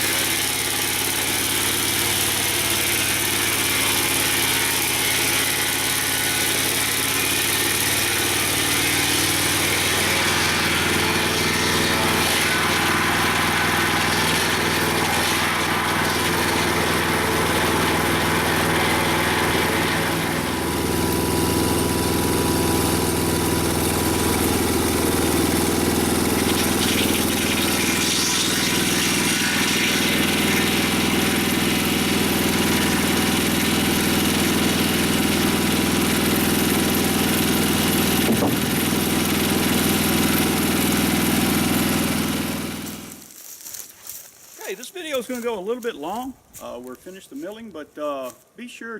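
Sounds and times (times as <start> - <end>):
sawmill engine running: 0.0 - 48.4.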